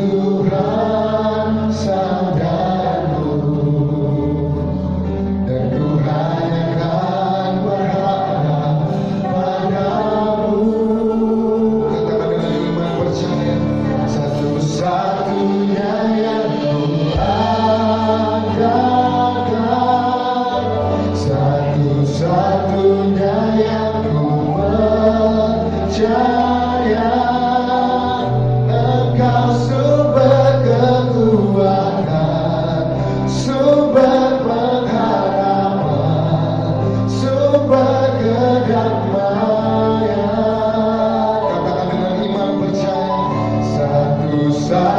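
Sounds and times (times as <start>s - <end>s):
choir singing gospel song: 0.0s - 44.9s
instrumental backing with bass: 0.0s - 44.9s.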